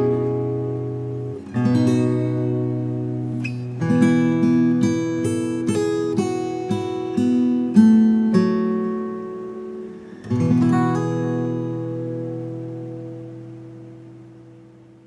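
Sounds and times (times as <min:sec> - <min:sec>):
acoustic guitar chords ringing: 0:00.0 - 0:15.0.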